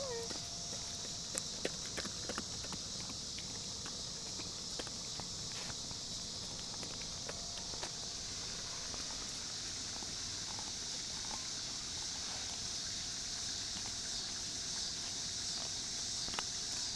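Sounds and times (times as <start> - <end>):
steady high-pitched hiss: 0.0 - 16.9.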